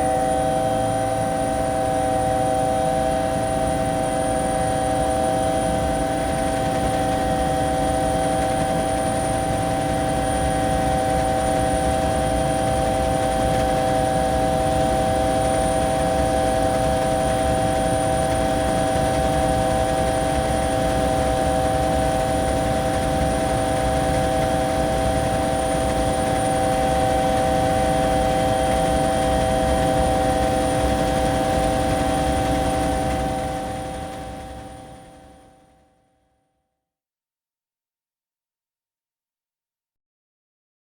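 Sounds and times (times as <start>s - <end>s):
high turbine whine: 0.0s - 35.1s
helicopter engine rumble: 0.0s - 35.2s.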